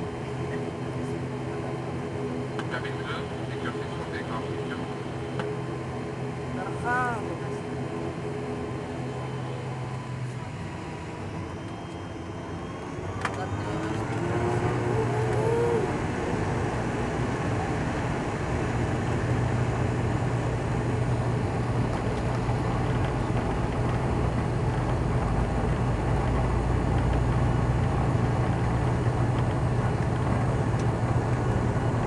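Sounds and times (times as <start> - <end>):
turboprop engine drone: 0.0 - 32.0
wheels rumbling on runway: 0.0 - 32.0.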